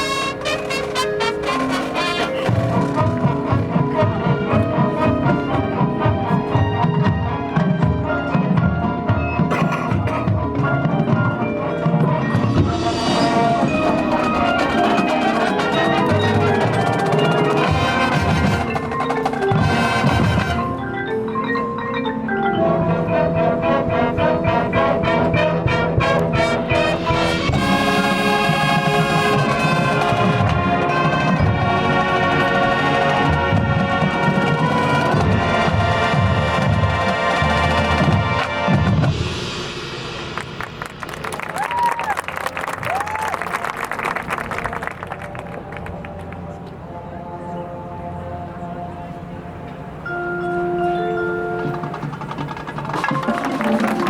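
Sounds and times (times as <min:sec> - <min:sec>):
mallet percussion: 0:00.0 - 0:41.9, 0:49.9 - 0:54.0
marching band playing: 0:00.0 - 0:54.0.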